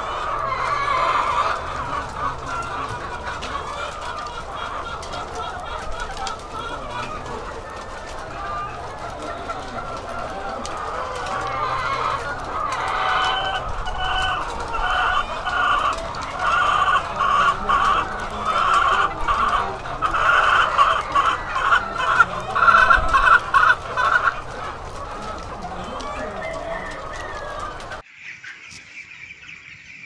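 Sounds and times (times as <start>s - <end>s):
hens calling: 0.0s - 30.0s.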